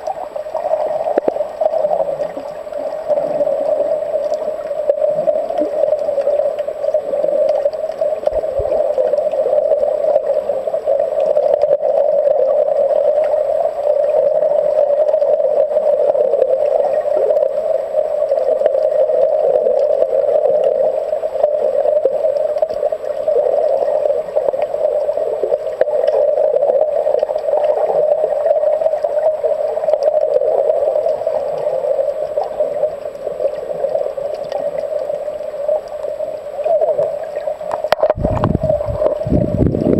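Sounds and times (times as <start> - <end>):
muffled underwater rushing: 0.0 - 39.9.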